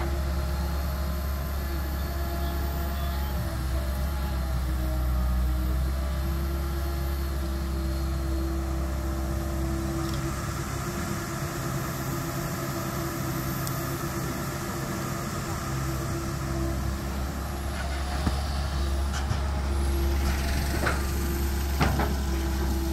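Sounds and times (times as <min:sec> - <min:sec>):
excavator diesel engine humming: 0:00.0 - 0:22.9.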